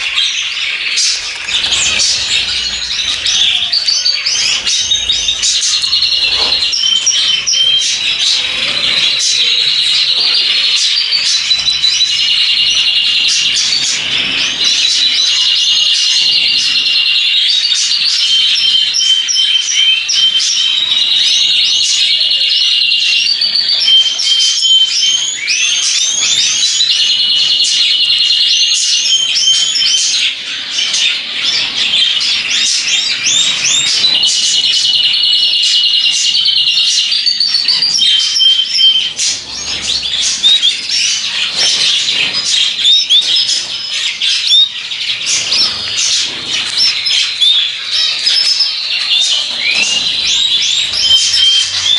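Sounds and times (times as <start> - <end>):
cage birds chirping: 0.0 - 51.9
fast bird trilling: 0.8 - 17.2, 20.8 - 51.9.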